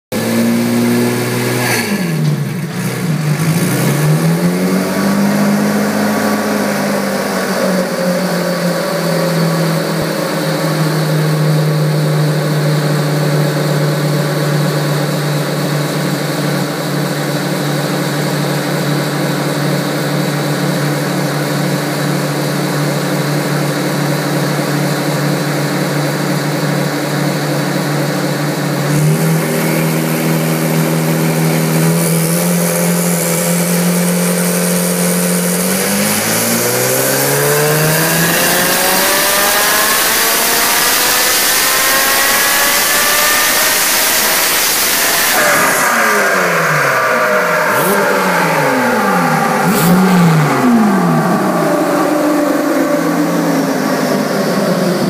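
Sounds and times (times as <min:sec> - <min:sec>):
car engine running: 0:00.1 - 0:55.0.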